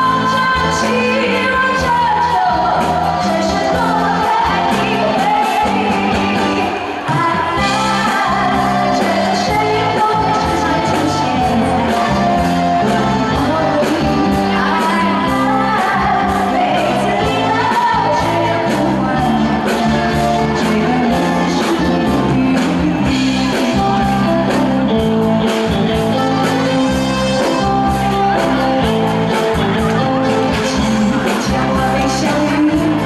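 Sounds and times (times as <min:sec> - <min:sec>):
live band with bass and drums: 0:00.0 - 0:33.0
woman singing into a microphone: 0:00.0 - 0:33.0.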